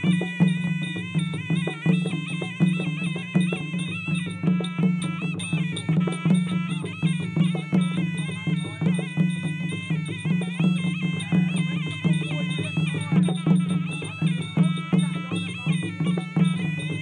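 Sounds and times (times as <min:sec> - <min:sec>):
reedy oboe melody: 0:00.0 - 0:17.0.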